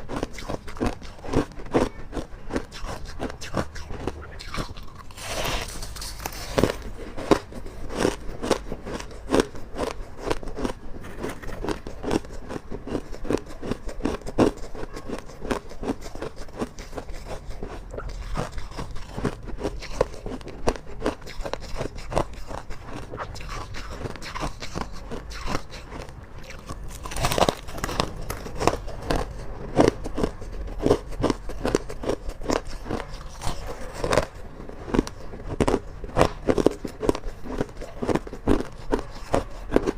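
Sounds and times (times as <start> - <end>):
chewing hard ice: 0.0 - 39.9.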